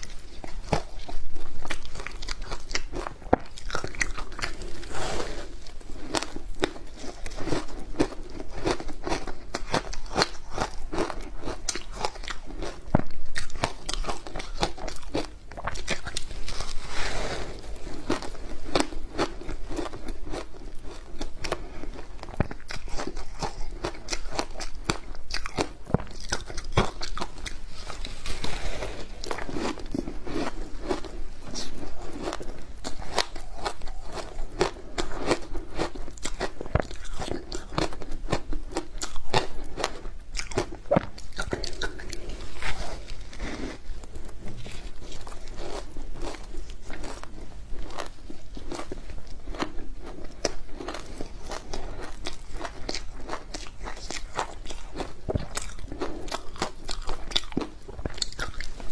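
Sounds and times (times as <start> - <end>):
ice crunching while chewed: 0.0 - 58.9.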